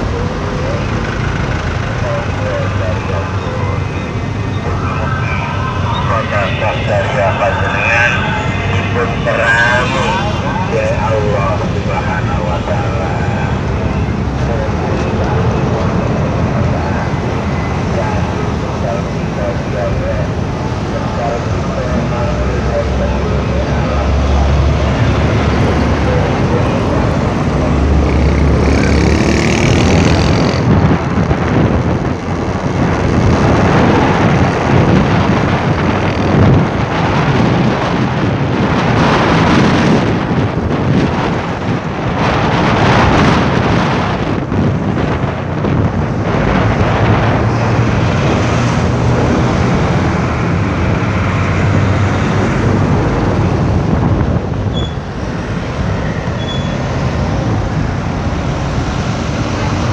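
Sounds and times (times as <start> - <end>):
engine and tyre noise: 0.0 - 59.9
road traffic noise: 0.0 - 59.9.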